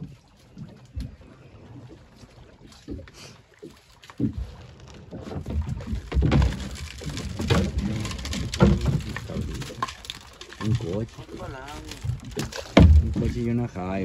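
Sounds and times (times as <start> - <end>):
water sloshing against boat: 0.0 - 14.0.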